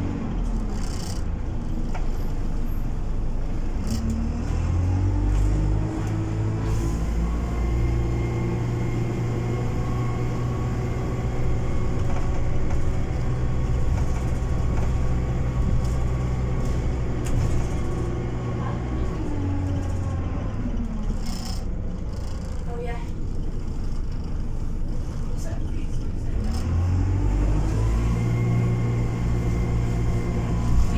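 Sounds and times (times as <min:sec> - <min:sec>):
bus engine from inside: 0:00.0 - 0:30.9.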